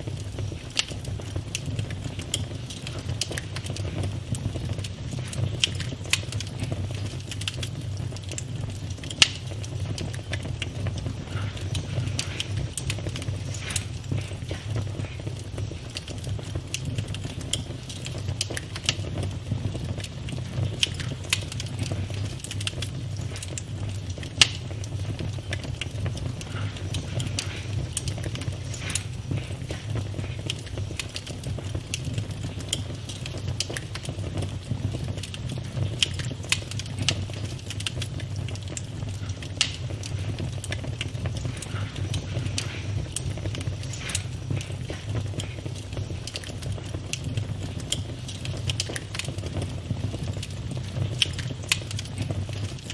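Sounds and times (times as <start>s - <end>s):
flames rumbling: 0.0s - 52.9s
wood crackling and popping: 0.0s - 52.9s.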